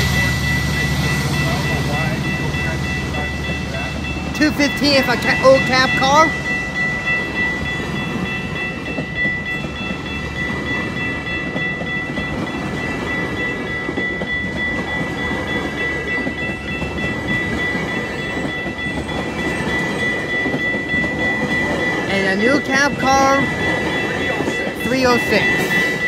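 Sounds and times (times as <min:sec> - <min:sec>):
crossing warning bell ringing: 0:00.0 - 0:26.0
train wheels clacking on rails: 0:00.0 - 0:26.0.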